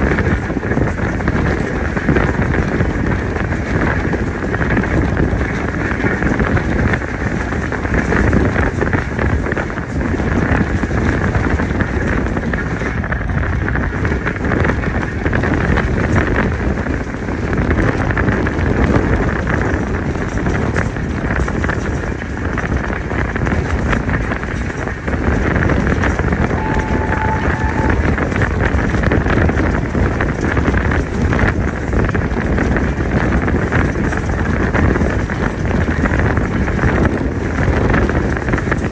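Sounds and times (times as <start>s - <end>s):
train wheels rumbling on track: 0.0s - 38.9s
wind buffeting microphone: 0.0s - 38.9s.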